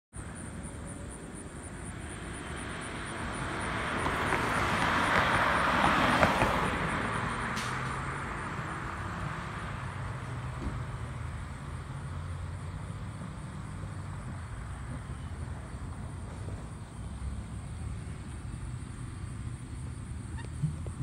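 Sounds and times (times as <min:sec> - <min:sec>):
car passing by: 0:01.8 - 0:21.0.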